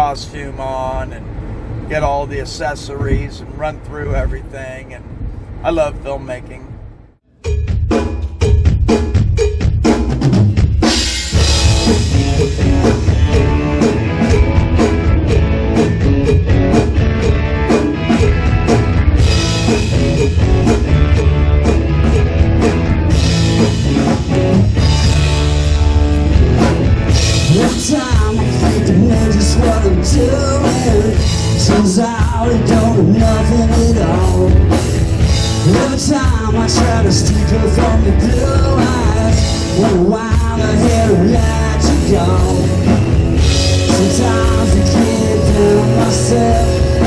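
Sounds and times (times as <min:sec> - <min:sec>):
drum kit hits: 0:07.4 - 0:47.0
rock band playing: 0:07.4 - 0:47.0.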